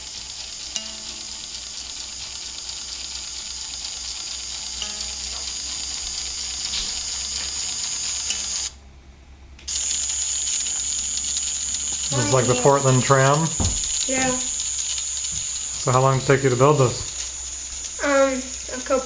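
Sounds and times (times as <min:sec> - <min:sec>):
toy motor and gears whining: 0:00.0 - 0:08.8, 0:09.7 - 0:19.0.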